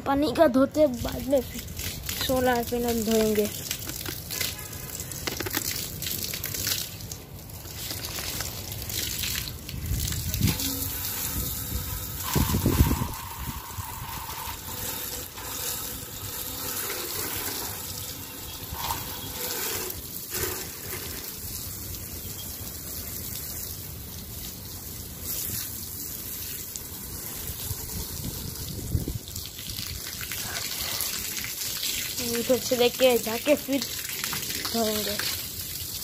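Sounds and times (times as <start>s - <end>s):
hose water splashing: 0.2s - 36.0s.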